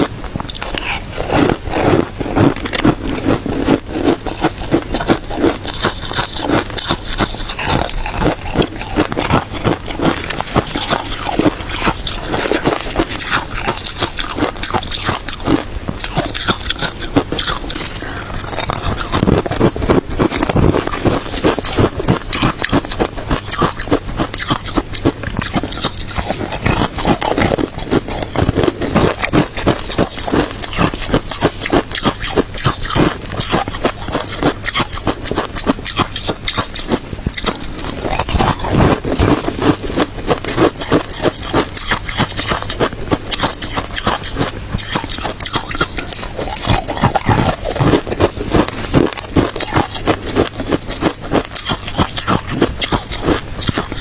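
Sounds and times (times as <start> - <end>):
chewing crunchy ice: 0.0 - 54.0
soft mouth sounds: 0.0 - 54.0.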